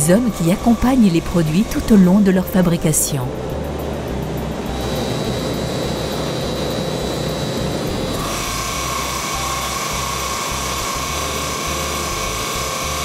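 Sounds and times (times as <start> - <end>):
production machinery running: 0.0 - 13.0
steady high whine: 0.0 - 13.0.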